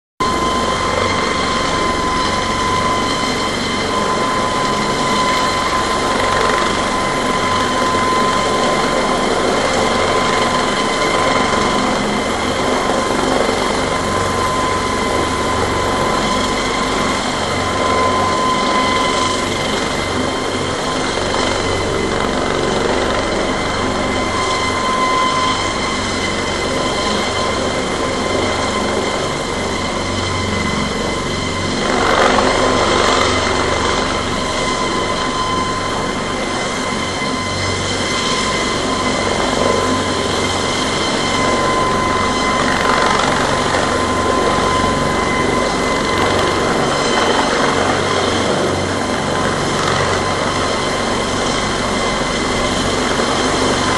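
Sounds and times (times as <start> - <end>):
helicopter rotor and turbine: 0.2 - 53.9.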